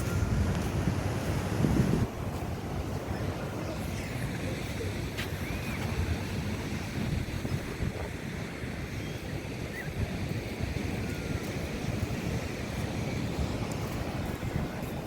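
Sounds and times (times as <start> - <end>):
sea surf washing on beach: 0.0 - 15.0
wind rumbling on microphone: 0.0 - 15.0.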